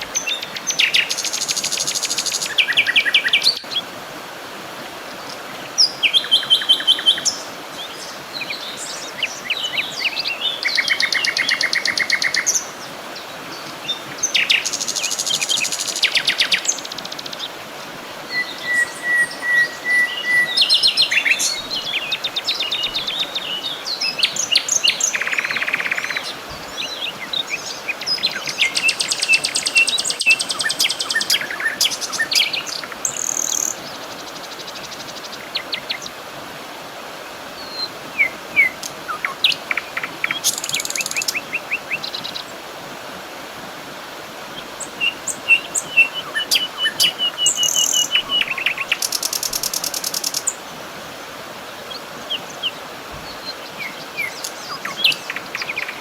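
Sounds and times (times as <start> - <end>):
songbirds trilling and chirping: 0.0 - 3.9, 5.0 - 42.8, 44.4 - 56.0.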